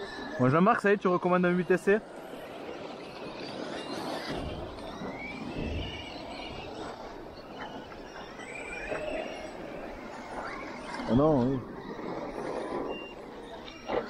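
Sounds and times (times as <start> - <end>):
steady rushing noise: 0.0 - 13.9
electric motor whine: 0.0 - 14.0.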